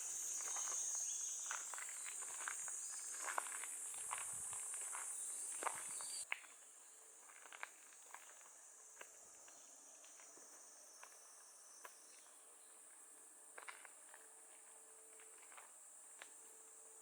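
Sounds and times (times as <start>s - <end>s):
footsteps on forest path: 0.0s - 16.5s
cicadas droning: 0.0s - 17.0s.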